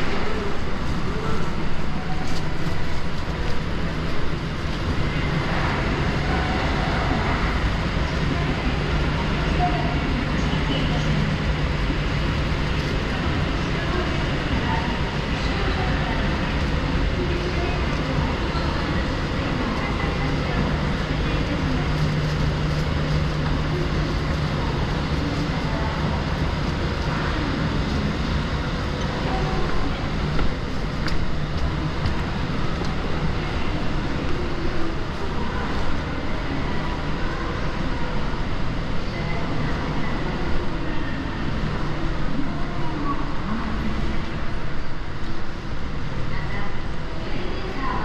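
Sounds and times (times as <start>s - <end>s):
faint indistinct voices: 0.0s - 48.0s.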